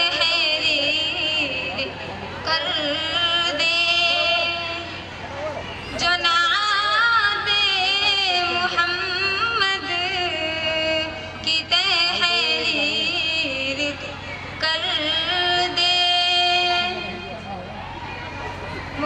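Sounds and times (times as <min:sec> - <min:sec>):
woman singing devotional song: 0:00.0 - 0:05.1, 0:05.9 - 0:17.4.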